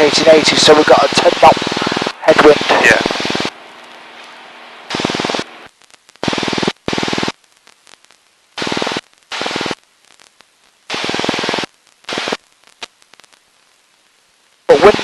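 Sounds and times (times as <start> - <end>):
quiet steady hum: 0.0 - 15.0.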